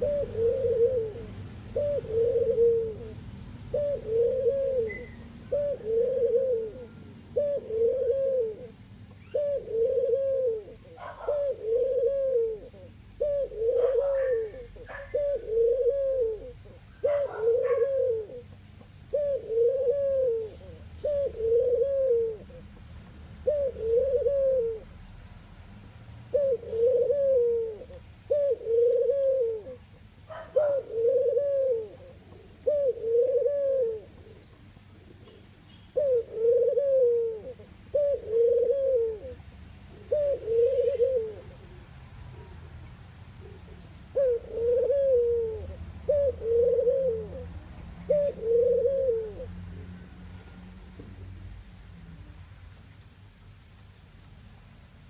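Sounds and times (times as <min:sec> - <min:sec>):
dove cooing: 0:00.0 - 0:25.1, 0:26.3 - 0:42.6, 0:43.3 - 0:49.8.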